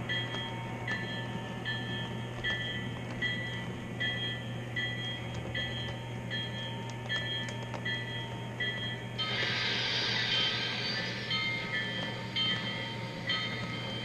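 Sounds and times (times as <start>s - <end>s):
model railroad bell ringing: 0.0s - 14.0s
steady low hum: 0.0s - 14.0s.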